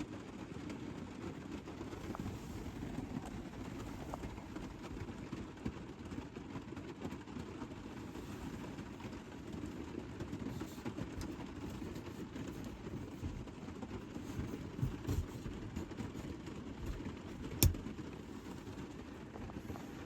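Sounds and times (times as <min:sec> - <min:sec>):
light rain on a roof: 0:00.0 - 0:20.0.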